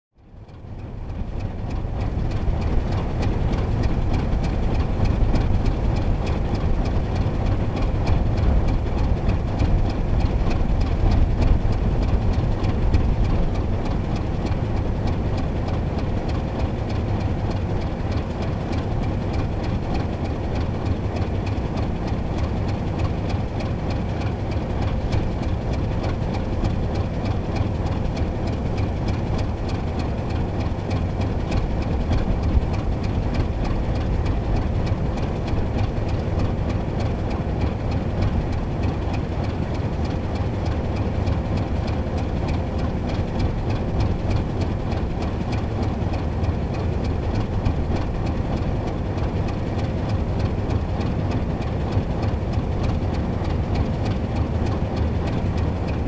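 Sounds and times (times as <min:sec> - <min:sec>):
diesel locomotive engine rumbling: 0:00.2 - 0:56.0.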